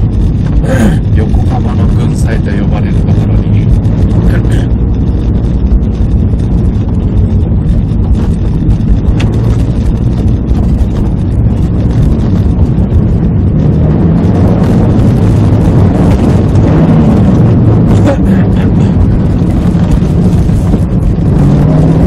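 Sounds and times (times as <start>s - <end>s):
car engine and road noise drone: 0.0s - 22.0s.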